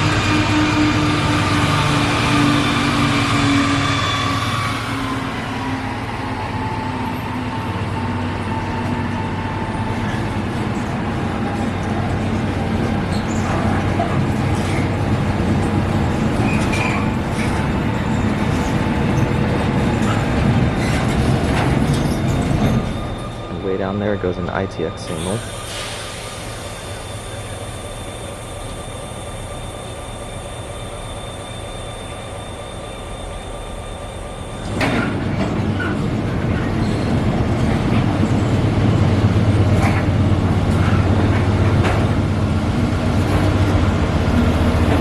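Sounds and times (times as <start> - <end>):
train rumbling on tracks: 0.0 - 45.0.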